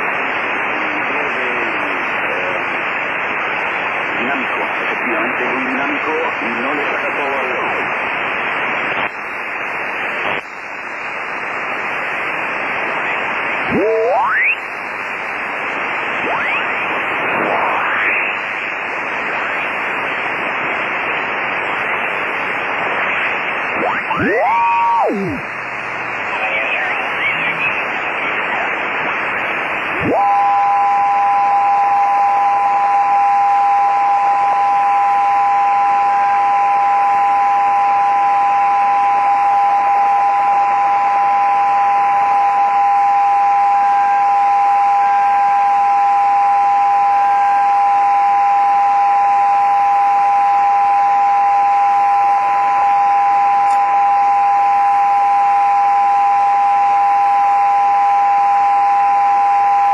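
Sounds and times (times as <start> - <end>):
radio band noise hiss: 0.0 - 59.9.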